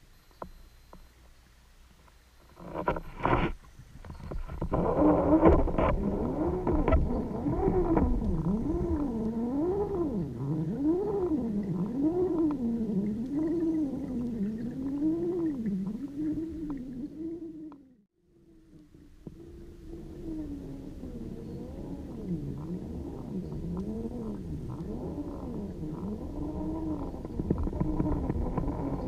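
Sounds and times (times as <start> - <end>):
underwater droning tone: 0.0 - 29.0.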